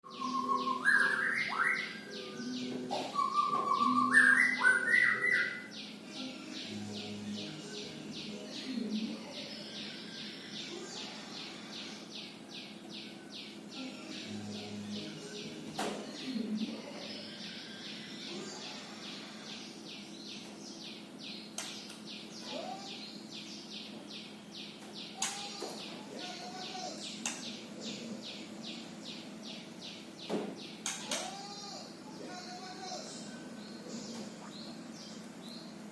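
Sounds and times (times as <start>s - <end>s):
bird chirping: 0.0s - 35.9s.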